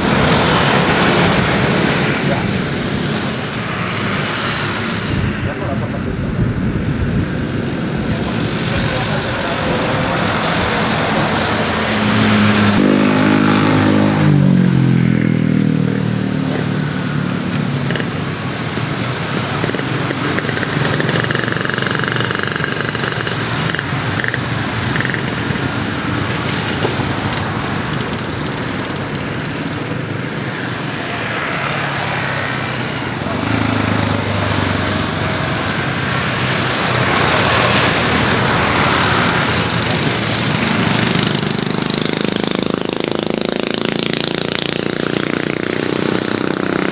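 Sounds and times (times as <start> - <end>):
engine and traffic noise: 0.0 - 46.9
passing engine: 0.0 - 46.9.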